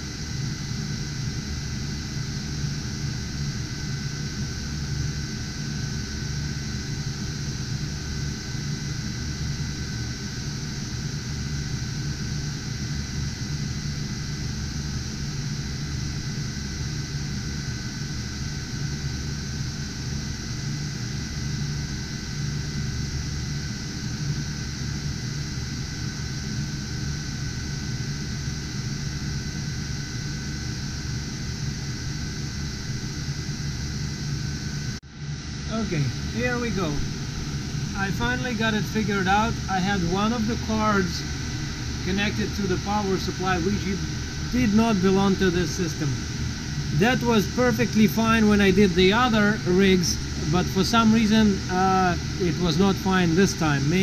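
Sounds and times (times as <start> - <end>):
cooling fans running: 0.0 - 54.0.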